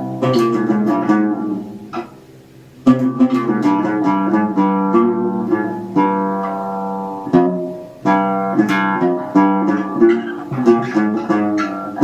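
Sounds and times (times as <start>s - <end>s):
plucked string melody: 0.0s - 12.0s.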